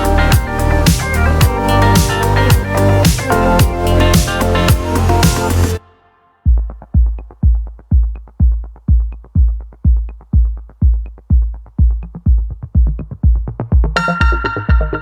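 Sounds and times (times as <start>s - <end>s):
deep kick drum: 0.0s - 5.6s, 6.5s - 15.0s
ticking hi-hats: 0.0s - 5.8s, 6.6s - 15.0s.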